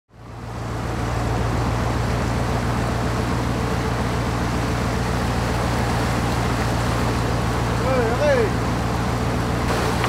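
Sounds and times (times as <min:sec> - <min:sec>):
boat wake rushing: 0:00.1 - 0:10.0
motorboat engine humming: 0:00.1 - 0:10.0.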